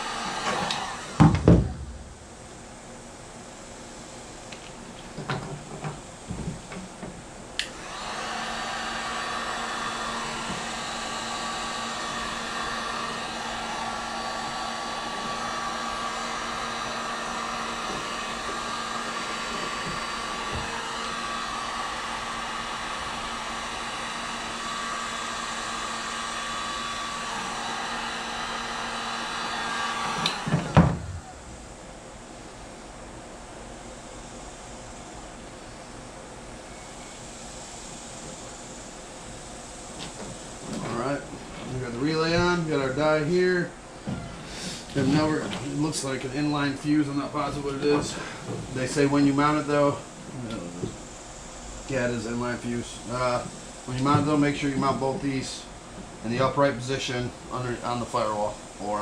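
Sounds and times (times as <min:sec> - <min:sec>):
heat gun running: 0:00.0 - 0:02.6, 0:07.6 - 0:32.0, 0:36.6 - 0:59.0.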